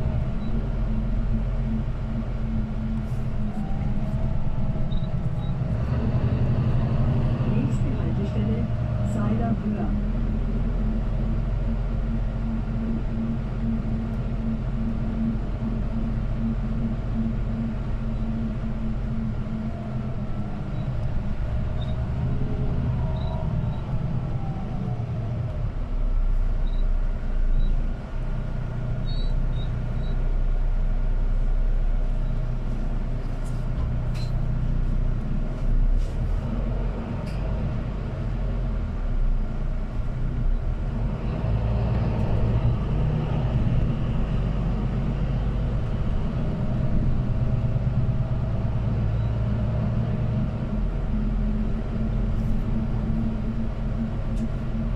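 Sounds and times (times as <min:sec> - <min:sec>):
bus engine hum: 0:00.0 - 0:54.9.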